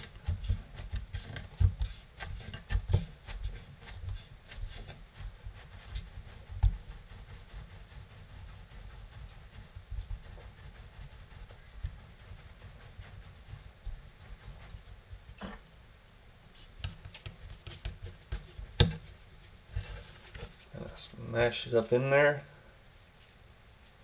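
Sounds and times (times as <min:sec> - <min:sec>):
hands rolling dough: 0:00.0 - 0:15.8, 0:16.5 - 0:22.1.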